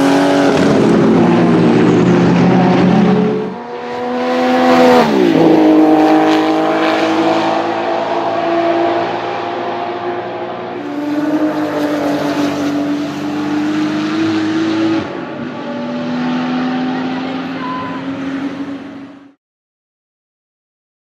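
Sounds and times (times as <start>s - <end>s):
race car engine accelerating: 0.0s - 19.4s.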